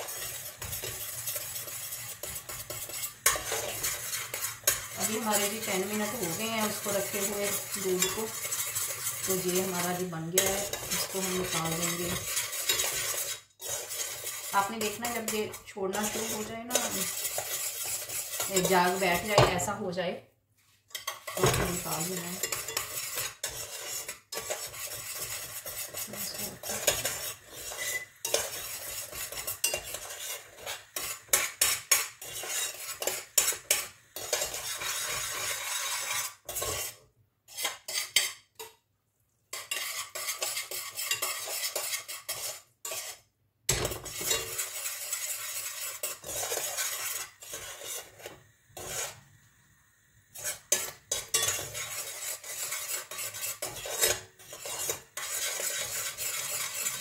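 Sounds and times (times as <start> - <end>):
spoon scraping a pan: 0.0 - 20.0, 20.9 - 38.8, 39.5 - 49.3, 50.3 - 57.0.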